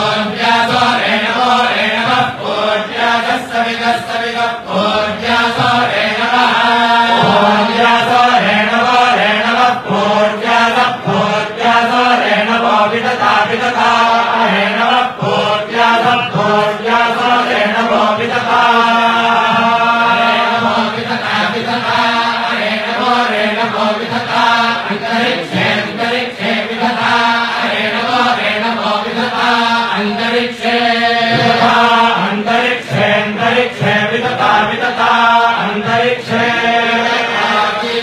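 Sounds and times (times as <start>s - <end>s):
continuous chanting: 0.0s - 38.0s.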